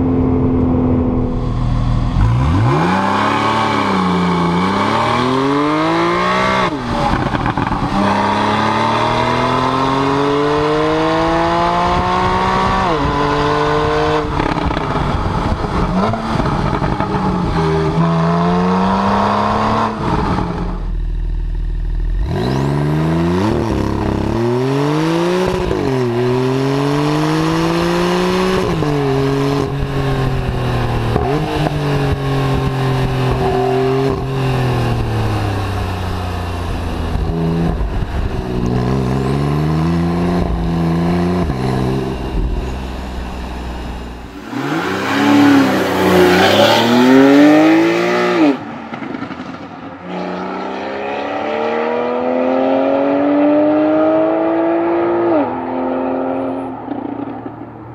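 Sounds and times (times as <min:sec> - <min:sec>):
car engine shifting gears: 0:00.0 - 0:57.9
car exhaust accelerating: 0:00.0 - 0:57.9.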